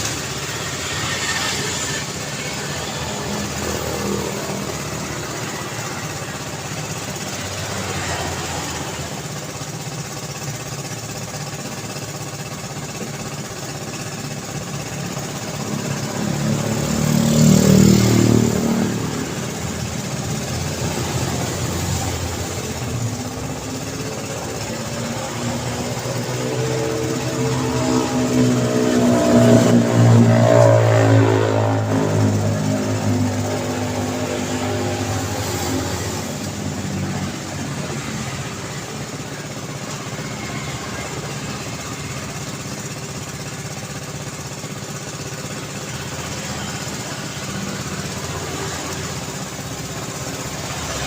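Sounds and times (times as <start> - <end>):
passing vehicle engines: 0.0 - 9.3, 15.6 - 42.7, 44.6 - 51.0.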